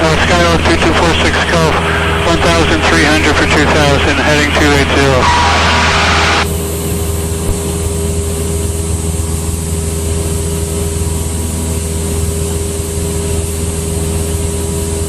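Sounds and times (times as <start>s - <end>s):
airplane engine and propeller drone: 0.0s - 15.0s.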